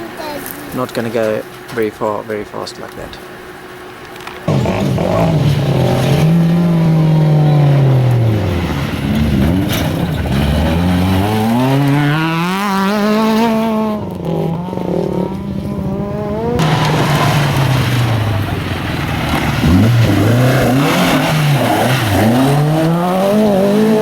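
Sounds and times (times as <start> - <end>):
rally car engine revving: 0.7 - 24.0.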